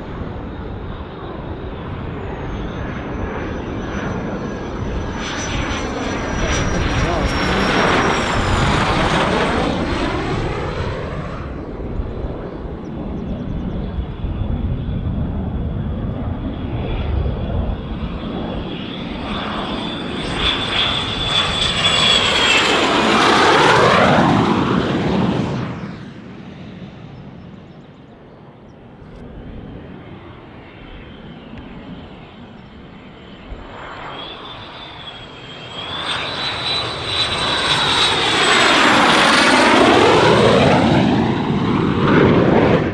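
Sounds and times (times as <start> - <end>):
jet aircraft passing overhead: 0.0 - 42.9.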